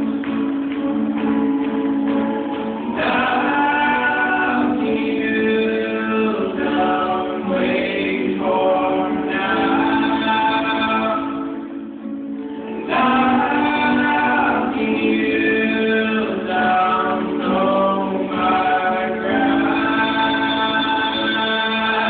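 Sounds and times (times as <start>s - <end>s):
acoustic guitars: 0.0s - 22.0s
upright bass: 0.0s - 22.0s
voices singing: 1.4s - 11.8s, 12.7s - 22.0s.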